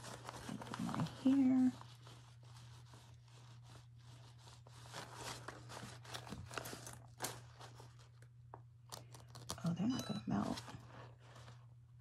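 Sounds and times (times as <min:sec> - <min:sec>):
craft materials rustling and crinkling: 0:00.0 - 0:09.8
low steady hum: 0:00.0 - 0:12.0.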